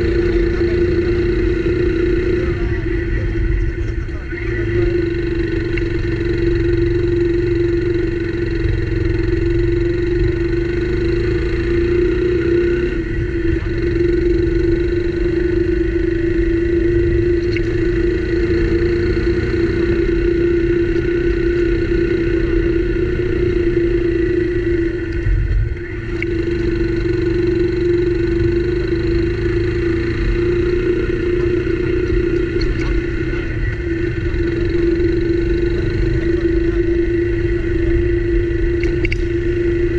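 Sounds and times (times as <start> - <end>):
low wind: 0.0 - 39.9
motorcycle engine running: 0.0 - 39.9
road rumble: 0.0 - 39.9.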